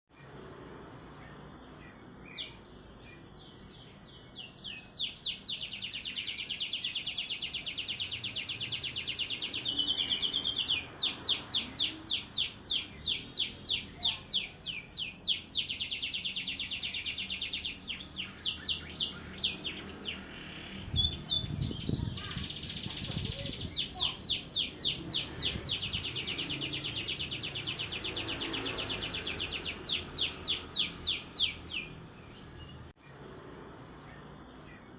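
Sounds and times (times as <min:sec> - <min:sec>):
canary singing: 0:00.1 - 0:34.9.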